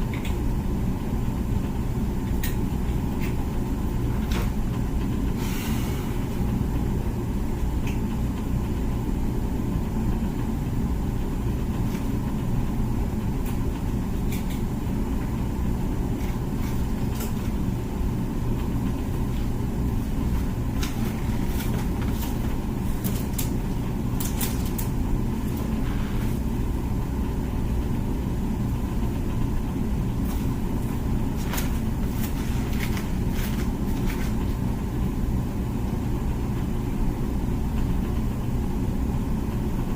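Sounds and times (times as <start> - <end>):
dishwasher humming: 0.0 - 39.9.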